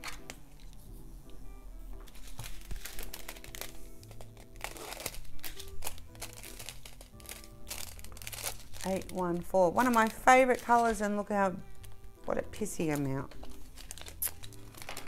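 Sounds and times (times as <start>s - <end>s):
background music: 0.0s - 15.0s
plastic bags crinkling: 2.0s - 15.0s.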